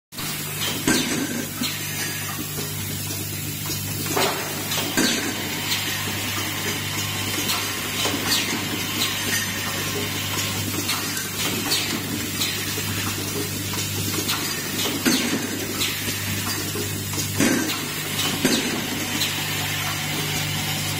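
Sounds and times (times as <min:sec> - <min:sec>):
machine humming: 0:00.5 - 0:20.9.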